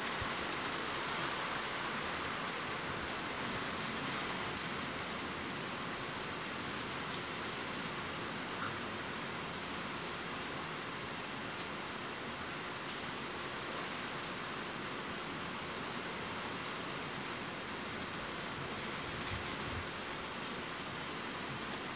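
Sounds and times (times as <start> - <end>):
steady rain hiss: 0.0 - 21.9.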